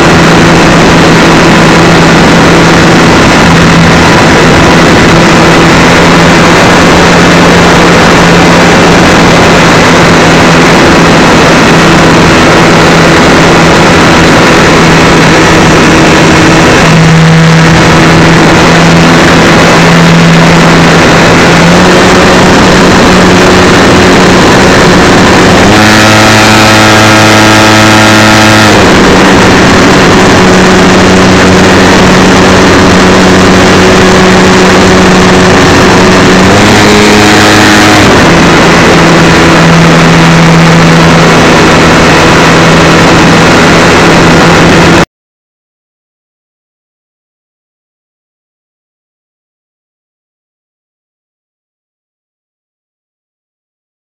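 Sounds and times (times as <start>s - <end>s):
electric motor hum: 0.0s - 44.4s
rushing air: 0.0s - 45.1s.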